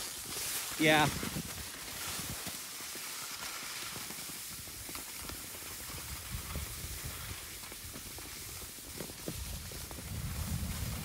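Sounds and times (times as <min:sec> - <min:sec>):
skis sliding over packed snow: 0:00.0 - 0:11.0.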